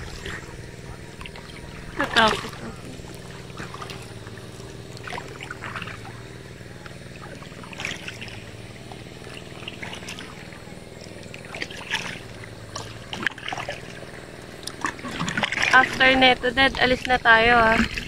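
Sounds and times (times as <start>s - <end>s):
paddle splashing in water: 0.0s - 18.0s
steady low hum: 0.0s - 18.0s.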